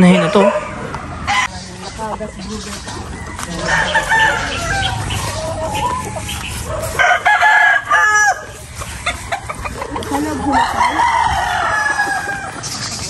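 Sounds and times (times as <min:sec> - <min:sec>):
roosters crowing: 0:00.0 - 0:13.0.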